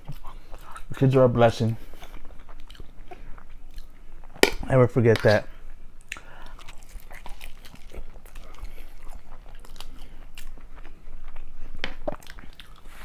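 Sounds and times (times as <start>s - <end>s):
man chewing food: 0.0s - 13.0s.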